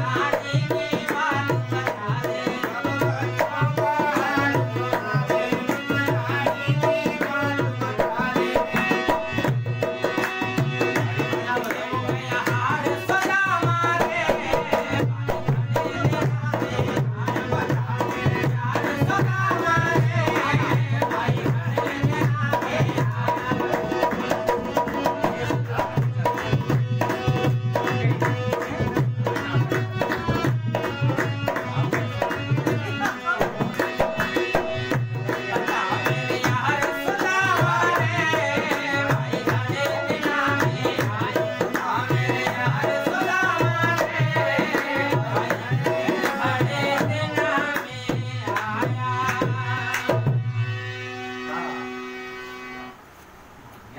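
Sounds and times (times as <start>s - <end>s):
hand drum rhythm: 0.0s - 50.4s
man singing: 0.0s - 51.6s
harmonium melody: 0.0s - 53.1s.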